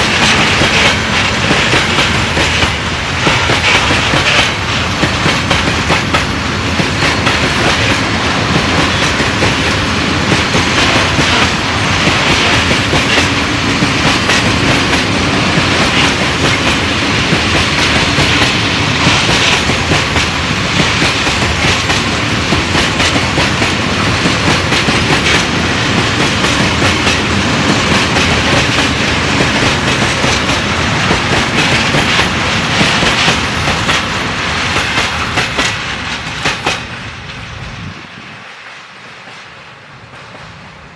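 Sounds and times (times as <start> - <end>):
train wheels clattering on rails: 0.0 - 40.7.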